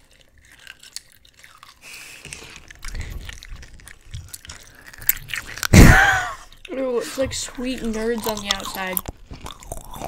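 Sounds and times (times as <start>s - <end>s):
chewing crunchy gummy candy: 0.0s - 10.0s.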